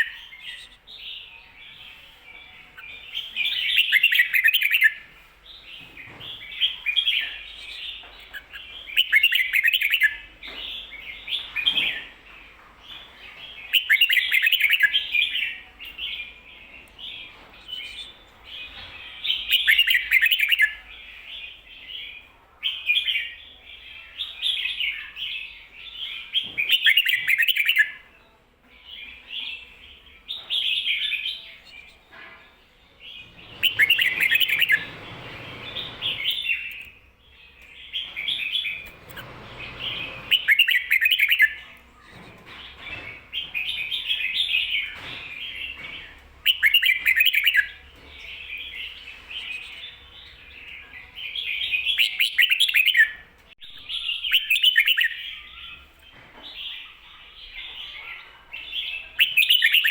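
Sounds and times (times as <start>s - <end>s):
bird singing warbled phrases: 0.0s - 32.2s, 33.0s - 59.9s.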